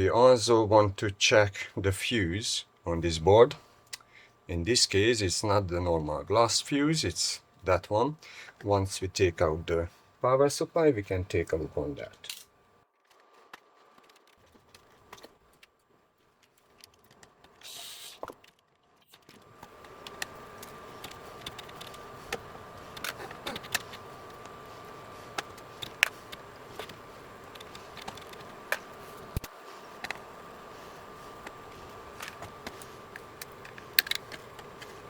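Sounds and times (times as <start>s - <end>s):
background hum with high tone: 0.0s - 35.0s.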